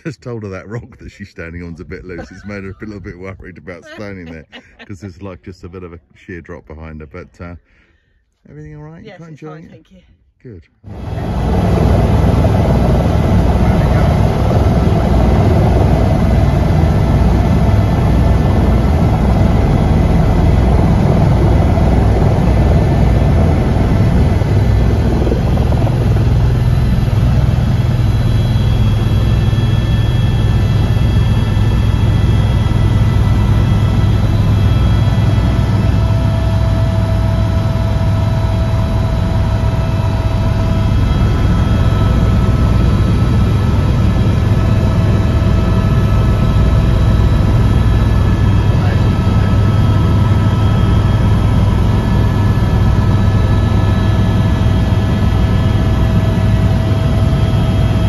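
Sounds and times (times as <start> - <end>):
helicopter turbine and rotor: 0.0 - 7.6, 10.8 - 58.0.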